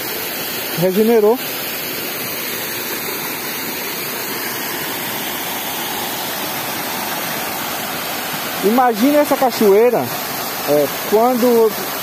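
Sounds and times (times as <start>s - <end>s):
small waterfall rushing: 0.0s - 12.0s.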